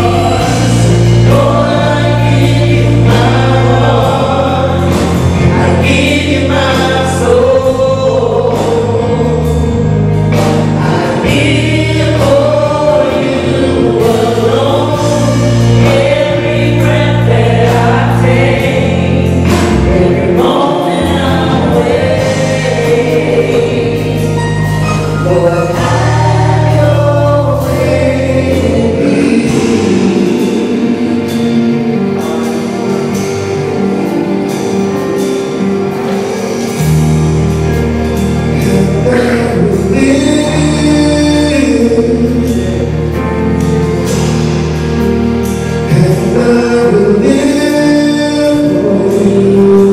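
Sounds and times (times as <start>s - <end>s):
bass notes: 0.0s - 49.9s
choir singing: 0.0s - 49.9s
drum and cymbal beat: 0.0s - 49.9s.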